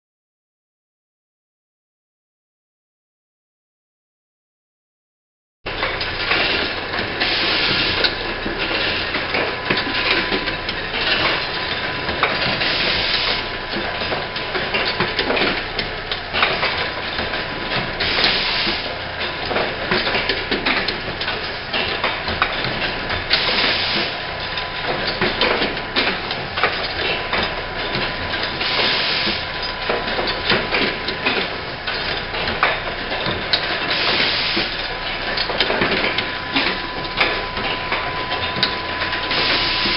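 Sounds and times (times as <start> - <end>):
machine clicking and clacking: 5.7 - 39.9.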